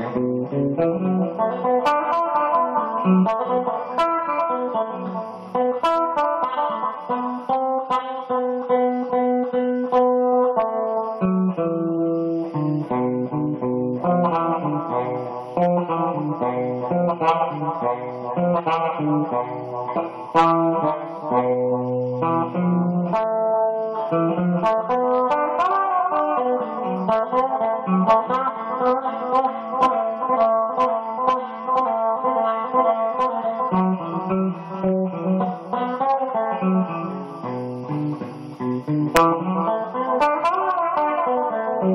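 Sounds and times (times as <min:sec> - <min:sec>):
plucked guitar notes: 0:00.0 - 0:41.9.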